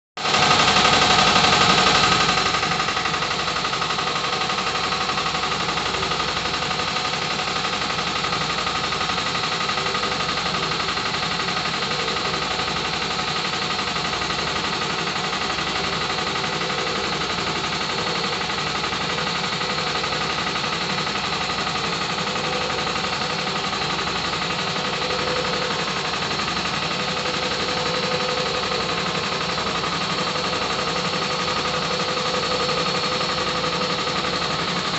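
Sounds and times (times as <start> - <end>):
air compressor clattering: 0.2 - 34.9.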